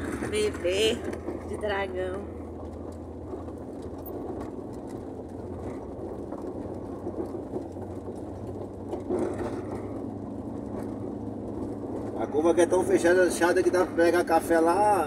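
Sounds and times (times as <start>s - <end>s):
engine hum: 0.0s - 15.0s
tyres on dirt road: 0.0s - 15.0s
vehicle bump: 0.0s - 15.0s.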